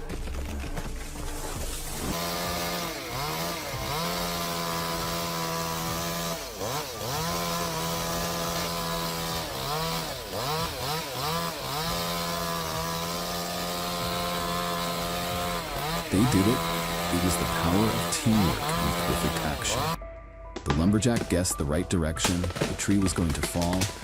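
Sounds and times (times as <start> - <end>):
chainsaw revving: 1.4 - 20.0, 22.4 - 24.0.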